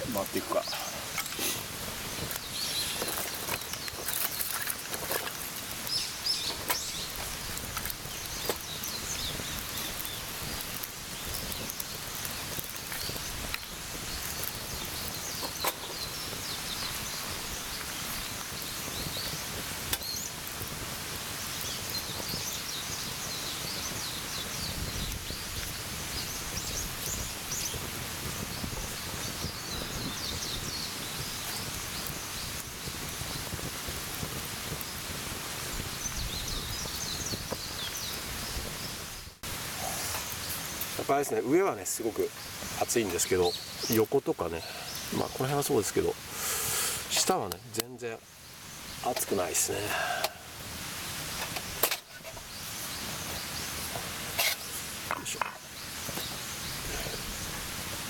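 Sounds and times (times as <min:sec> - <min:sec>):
birds chirping: 0:00.0 - 0:58.0
fire crackling and popping: 0:00.0 - 0:58.0.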